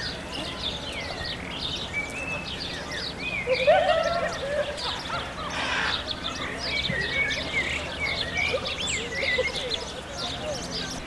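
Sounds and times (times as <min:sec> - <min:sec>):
small birds singing and chirping: 0:00.0 - 0:11.0.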